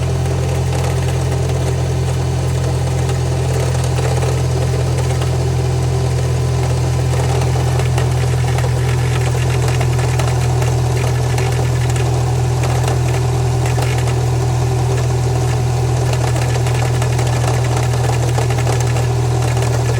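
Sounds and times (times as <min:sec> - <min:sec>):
car engine idling: 0:00.0 - 0:19.9
engine ticking: 0:00.0 - 0:19.9.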